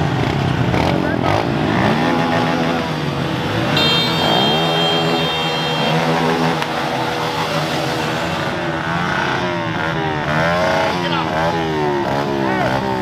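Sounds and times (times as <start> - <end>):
small motorbike engines revving: 0.0 - 13.0.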